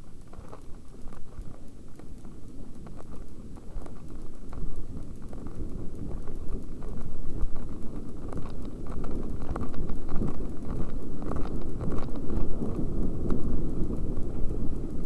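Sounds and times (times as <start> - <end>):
bike clicks and rattles: 0.0 - 15.0
rumble of tyres and wind: 0.0 - 15.0.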